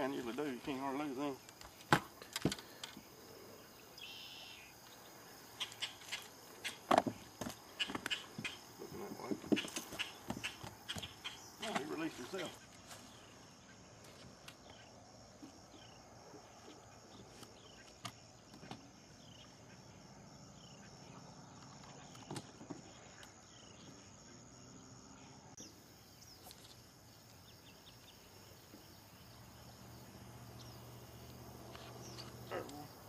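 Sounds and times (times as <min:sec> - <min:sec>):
insect chirring: 0:00.0 - 0:33.0.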